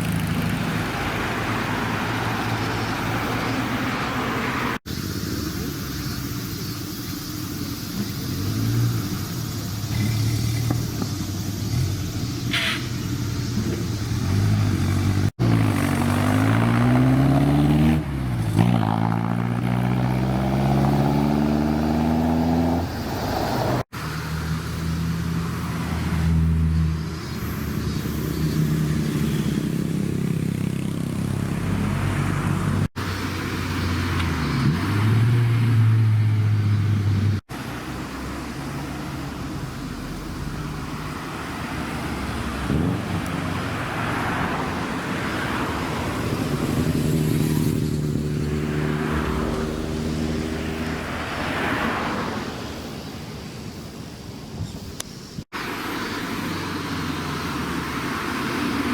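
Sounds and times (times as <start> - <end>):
car engines accelerating: 0.0 - 54.3, 55.4 - 58.9.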